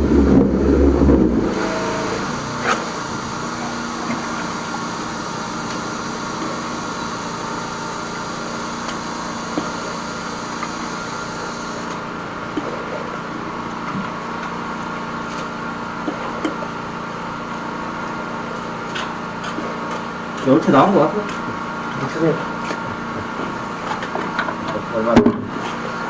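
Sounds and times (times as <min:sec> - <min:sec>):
drain jetter drone: 0:00.0 - 0:26.0.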